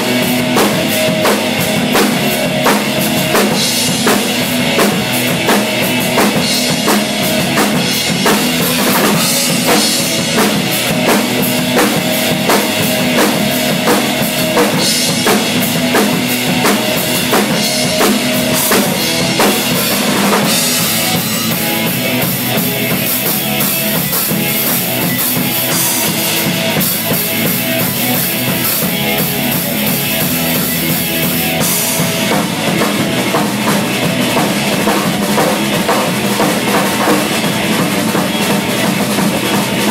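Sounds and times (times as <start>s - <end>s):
drum kit playing a beat: 0.0s - 39.9s.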